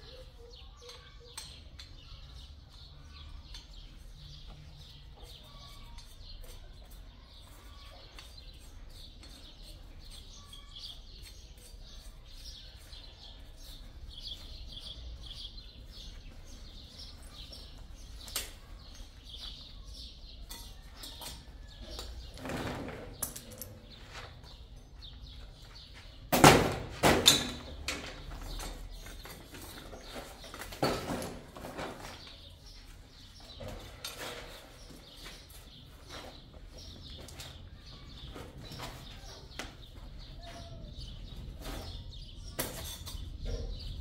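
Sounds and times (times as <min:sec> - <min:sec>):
small birds chirping: 0:00.0 - 0:26.3, 0:27.5 - 0:44.0.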